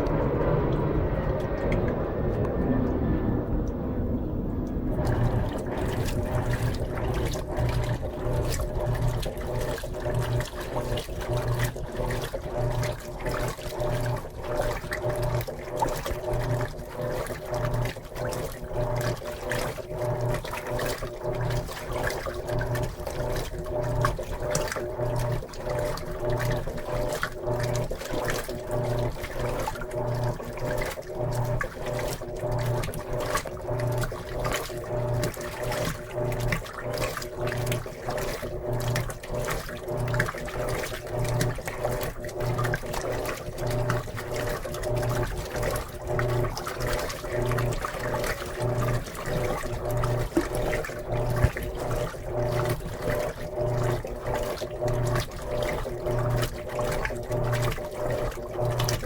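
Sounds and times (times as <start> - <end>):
washing machine motor humming: 0.0 - 59.0
water sloshing and splashing: 0.0 - 59.0.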